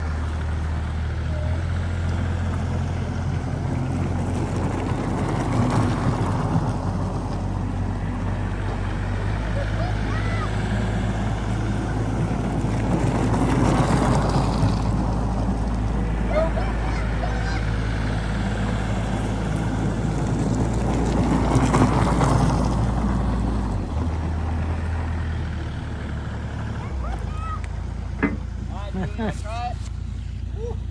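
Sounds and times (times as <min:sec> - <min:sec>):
excavator engine running: 0:00.0 - 0:30.9.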